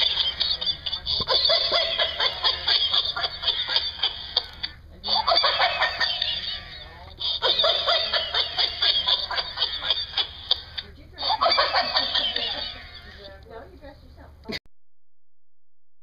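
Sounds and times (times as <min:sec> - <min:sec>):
toy giggling laugh: 0:00.0 - 0:13.3.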